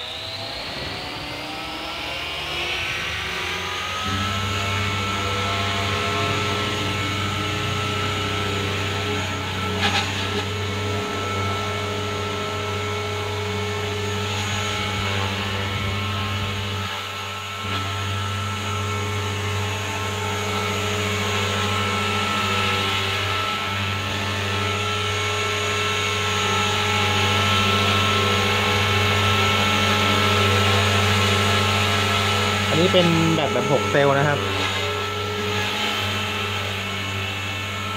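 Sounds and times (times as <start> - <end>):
rc helicopter rotor whirring: 0.0 - 37.9.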